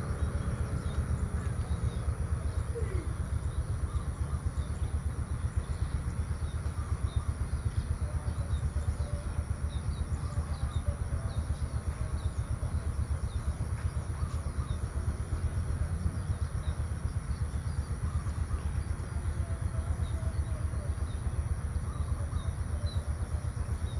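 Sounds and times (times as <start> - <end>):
low fluttering rumble: 0.0 - 23.9
small birds chirping: 0.0 - 23.9.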